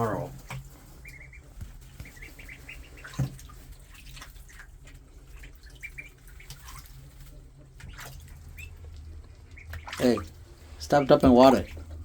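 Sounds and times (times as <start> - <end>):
ducklings peeping: 0.0 - 12.0
ducklings splashing in water: 0.0 - 12.0.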